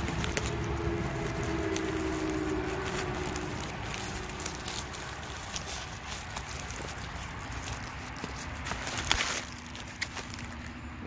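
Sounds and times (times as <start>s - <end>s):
package clicks and rustles: 0.0s - 10.8s
highway traffic rumble: 0.0s - 11.0s.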